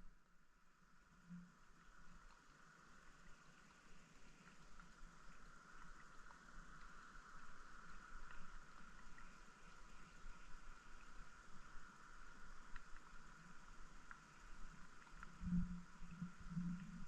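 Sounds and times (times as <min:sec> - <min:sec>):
small ticks and pops: 0:01.2 - 0:17.0.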